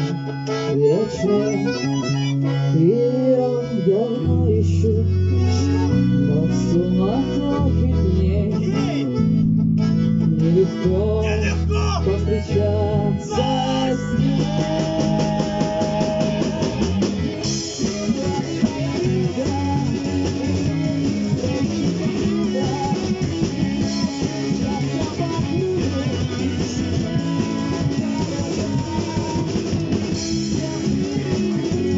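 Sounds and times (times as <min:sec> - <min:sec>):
rock band playing instrumental: 0:00.0 - 0:31.9.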